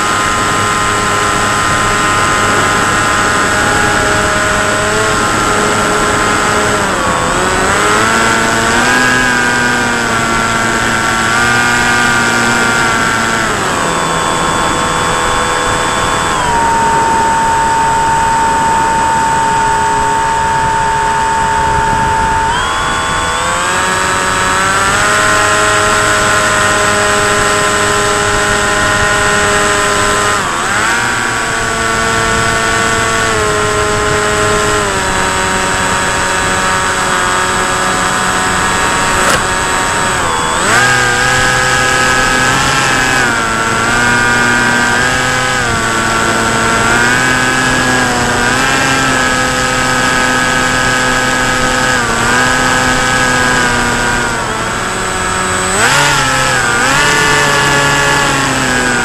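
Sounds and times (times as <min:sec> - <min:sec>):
electric motor and propeller whining: 0:00.0 - 0:59.0.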